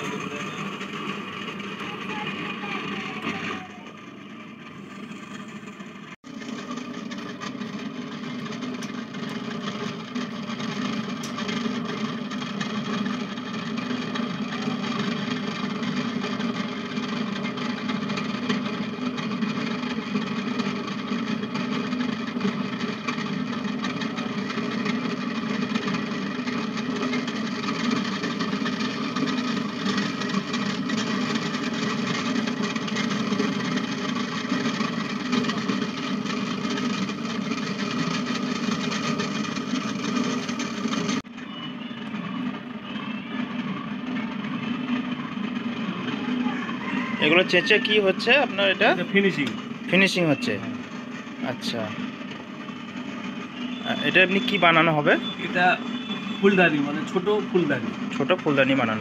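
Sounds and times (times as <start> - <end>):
potter's wheel motor hum: 0.0 - 59.0.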